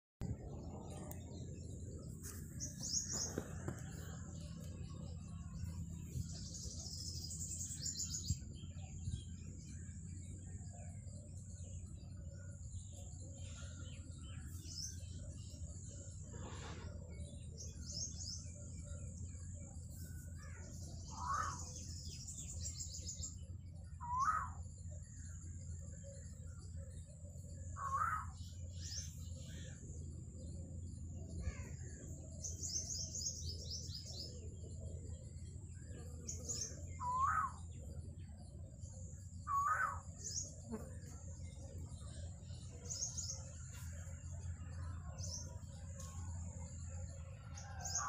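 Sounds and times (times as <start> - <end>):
faint high whine: 0.2 - 48.0
small birds chirping: 0.2 - 48.0.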